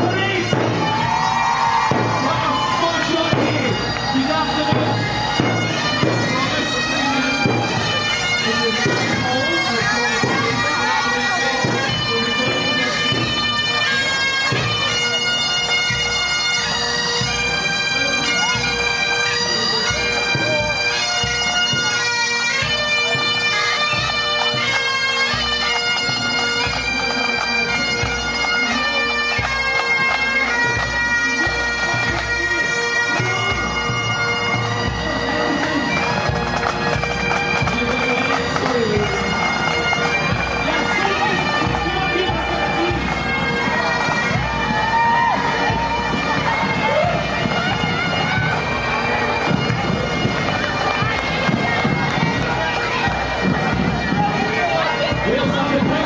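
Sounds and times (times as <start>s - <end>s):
bagpipes playing a tune: 0.0s - 56.0s.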